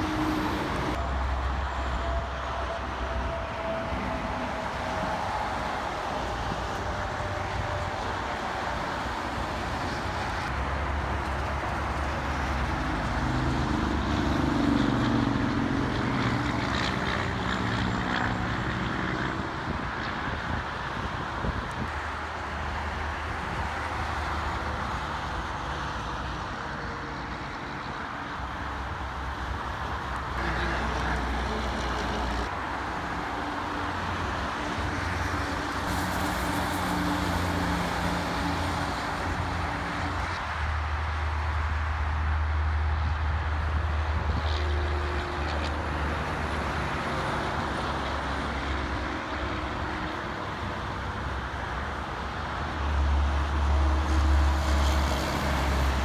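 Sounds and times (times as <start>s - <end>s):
diesel truck engine hum: 0.0s - 56.0s
highway traffic roar: 0.0s - 56.0s.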